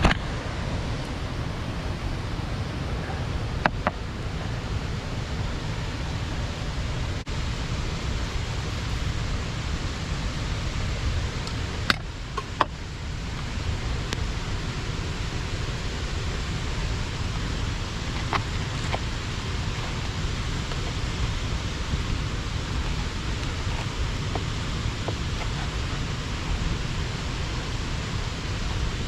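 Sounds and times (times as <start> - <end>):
river water pouring over weir: 0.8 - 29.0.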